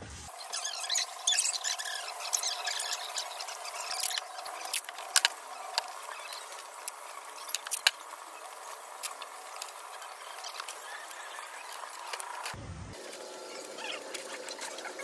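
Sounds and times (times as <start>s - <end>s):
foam squeaking and rustling: 0.0s - 15.0s.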